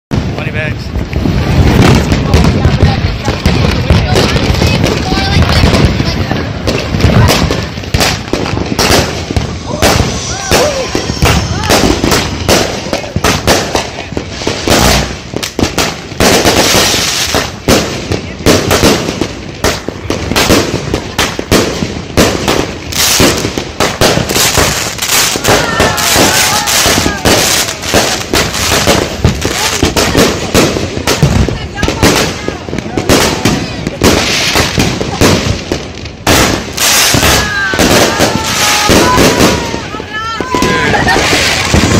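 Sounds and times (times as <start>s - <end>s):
firework crackle and hiss: 0.1s - 41.9s
firework shots and bangs: 0.1s - 41.9s.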